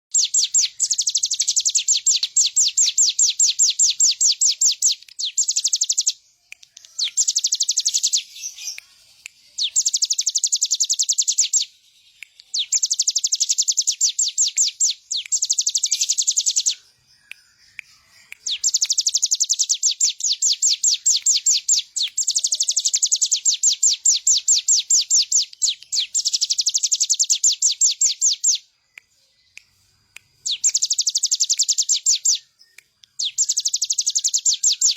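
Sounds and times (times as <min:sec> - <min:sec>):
bird singing rapid high notes: 0:00.1 - 0:34.9.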